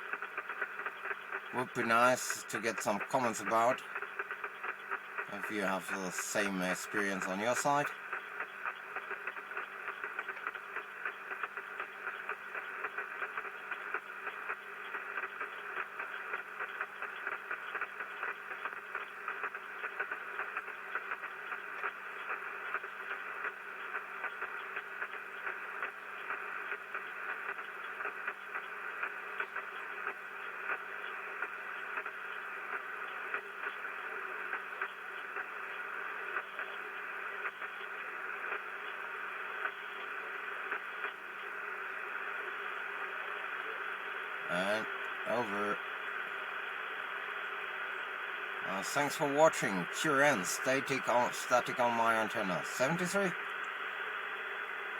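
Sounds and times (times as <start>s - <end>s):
radio receiver hiss: 0.0s - 54.9s
radio static crackling clicks: 0.0s - 54.9s.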